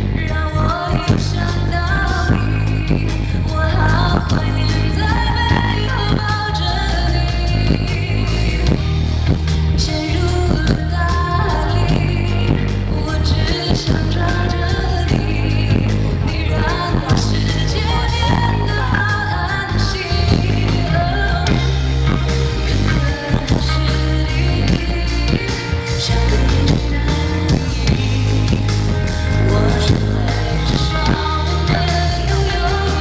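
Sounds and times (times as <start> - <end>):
band with heavy bass line: 0.0 - 33.0
woman singing: 0.0 - 33.0.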